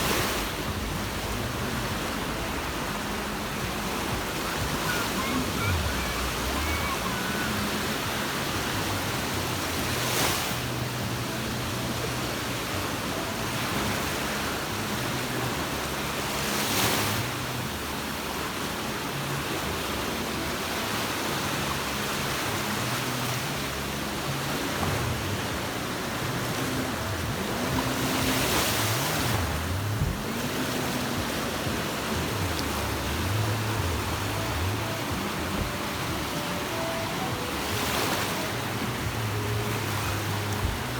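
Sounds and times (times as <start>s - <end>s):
waves washing onto a beach: 0.0s - 40.9s.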